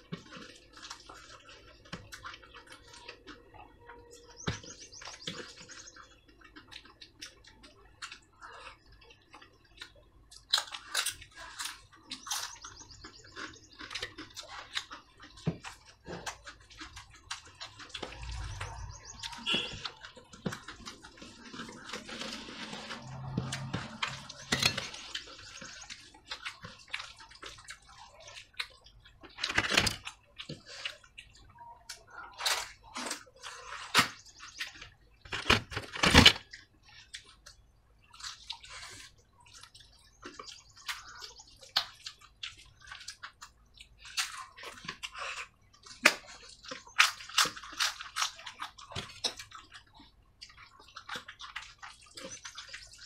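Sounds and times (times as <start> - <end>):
wet squishing and smacking eating: 0.0 - 35.6, 36.4 - 53.0.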